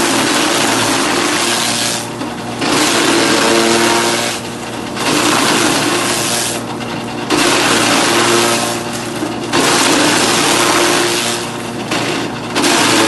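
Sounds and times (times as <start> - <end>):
cutter crunching forage: 0.0 - 13.0.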